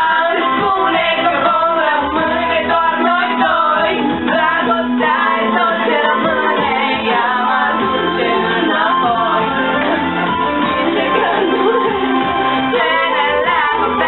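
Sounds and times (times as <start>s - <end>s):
women singing with music: 0.0s - 14.0s.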